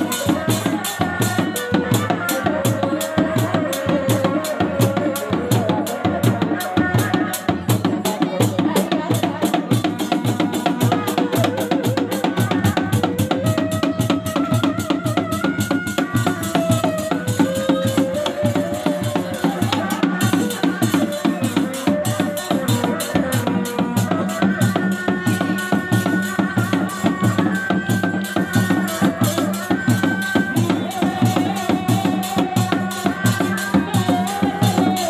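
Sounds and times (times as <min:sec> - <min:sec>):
drums beating interlocking rhythm: 0:00.0 - 0:35.0.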